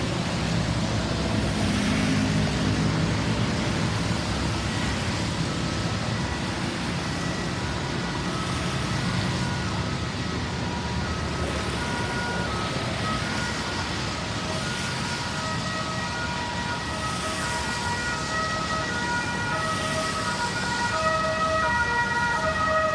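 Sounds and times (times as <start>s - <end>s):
distant emergency siren: 0.0s - 22.9s
road traffic passing: 0.0s - 22.9s.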